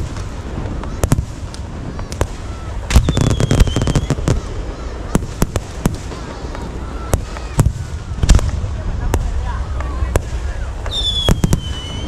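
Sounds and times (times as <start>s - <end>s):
firework whistle: 0.0s - 8.5s, 10.4s - 12.0s
fireworks bangs and crackles: 0.0s - 12.0s.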